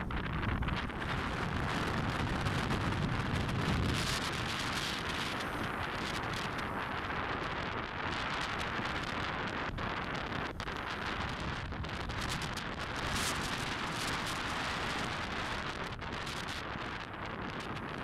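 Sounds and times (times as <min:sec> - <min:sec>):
low road rumble: 0:00.0 - 0:18.0
wind buffeting microphone: 0:00.0 - 0:18.0.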